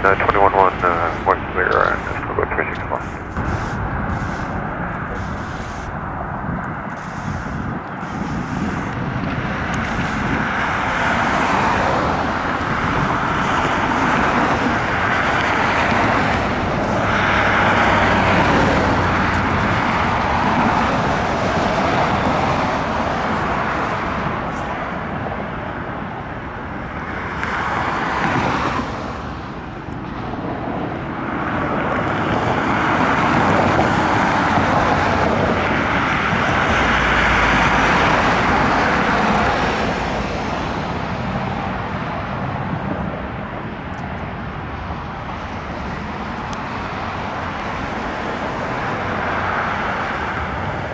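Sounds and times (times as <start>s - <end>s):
jet engine rushing: 0.0s - 50.9s.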